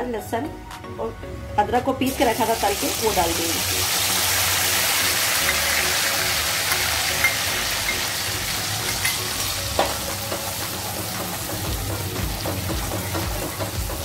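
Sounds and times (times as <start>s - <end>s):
paste sizzling in hot oil: 2.1s - 13.8s.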